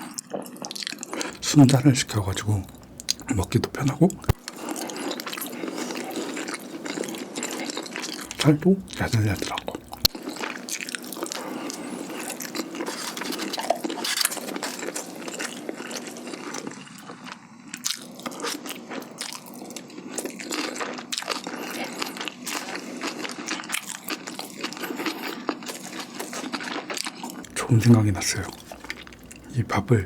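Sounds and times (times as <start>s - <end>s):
close chewing and biting: 0.0s - 30.0s.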